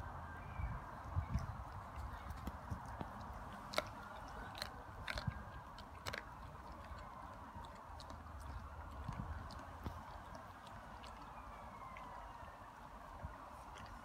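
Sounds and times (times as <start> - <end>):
dog chewing wet food: 1.2 - 14.0.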